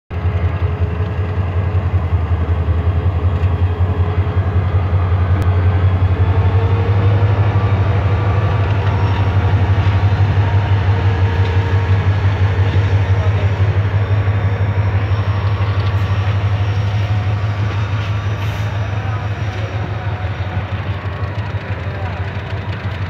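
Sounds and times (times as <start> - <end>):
diesel locomotive engine drone: 0.1 - 23.0.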